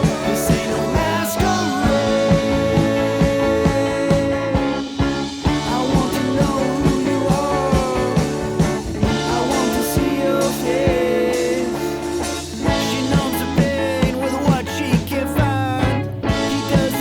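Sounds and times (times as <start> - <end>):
bass guitar: 0.0 - 17.0
drum kit beat: 0.0 - 17.0
electric guitar: 0.0 - 17.0.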